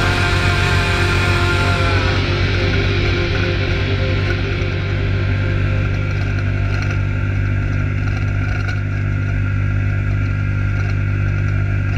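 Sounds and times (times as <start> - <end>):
vehicle engine droning: 0.0 - 11.9.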